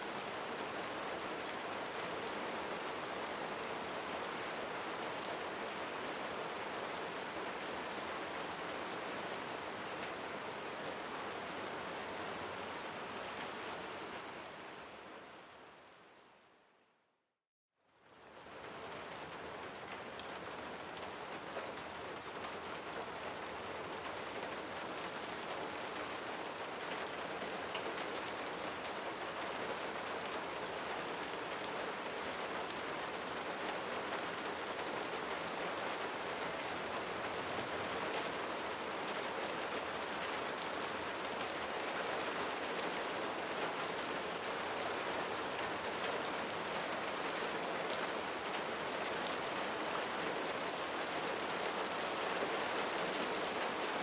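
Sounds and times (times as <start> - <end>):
steady rain falling: 0.0 - 16.7, 18.0 - 54.0.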